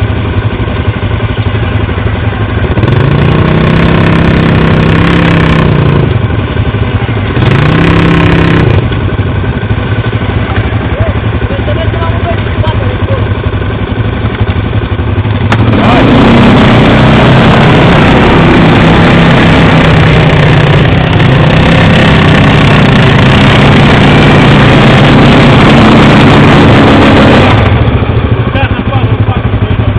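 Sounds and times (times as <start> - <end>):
quad bike engine revving: 0.0 - 29.9.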